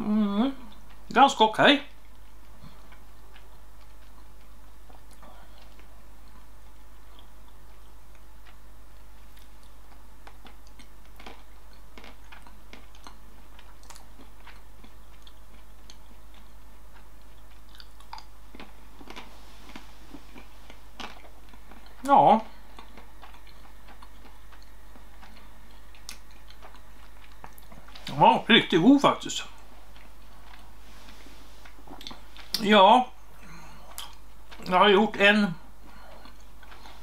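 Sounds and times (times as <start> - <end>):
steady low hum: 0.0 - 37.0
person chewing chocolate: 1.9 - 28.9, 29.5 - 34.8, 35.6 - 37.0.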